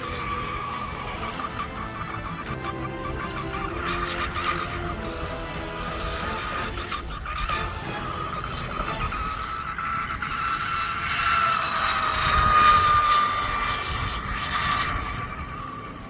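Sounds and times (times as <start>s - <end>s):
boat motor screaming whine: 0.0s - 16.0s.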